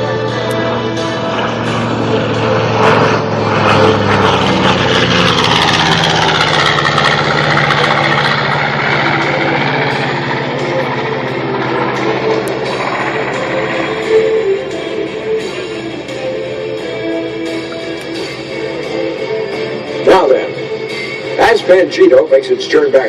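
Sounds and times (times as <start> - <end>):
propeller plane engines flyby: 0.0 - 23.0.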